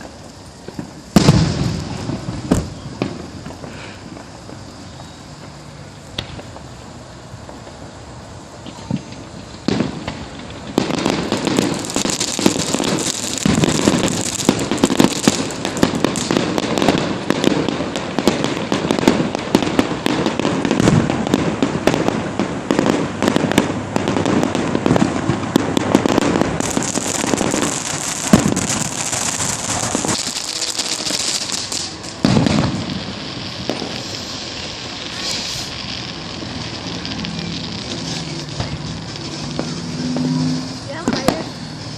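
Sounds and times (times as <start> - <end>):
fireworks bangs: 0.0 - 41.9
fireworks crackling: 0.0 - 41.9.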